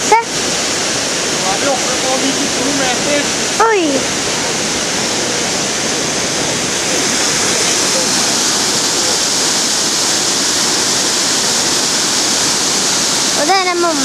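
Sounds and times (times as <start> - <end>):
water gushing into lock chamber: 0.0 - 14.0.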